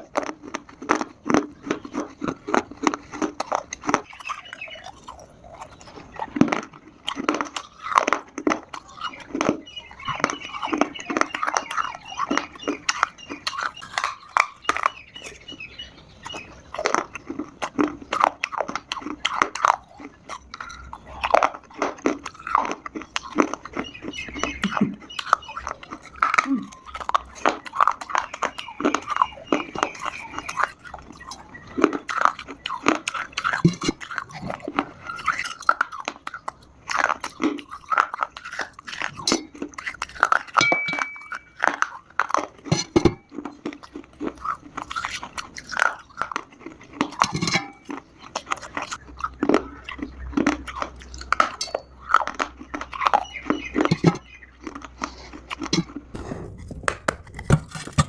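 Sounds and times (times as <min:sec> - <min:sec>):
crunchy chewing of dry clay: 0:00.0 - 0:58.0.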